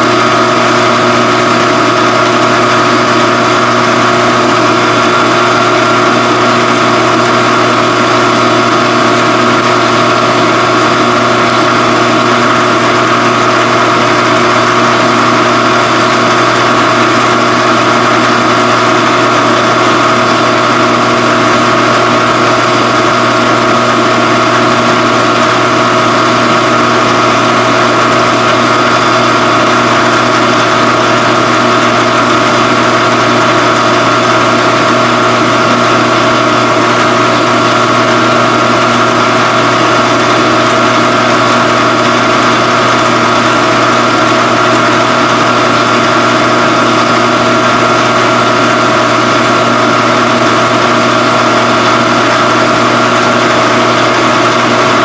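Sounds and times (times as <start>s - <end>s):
phase converter electrical hum: 0.0s - 55.0s.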